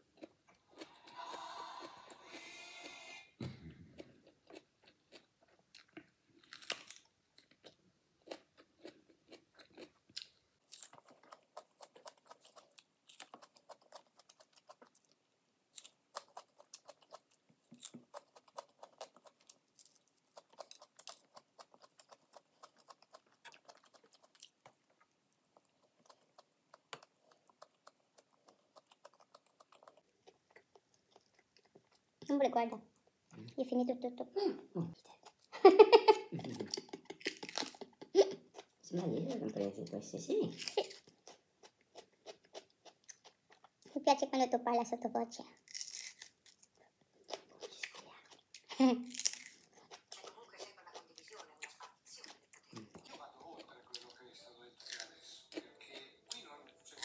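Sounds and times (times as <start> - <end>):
chewing crunchy peppers: 0.0 - 3.0, 3.6 - 32.3, 36.3 - 39.9, 40.5 - 44.0, 45.5 - 57.0.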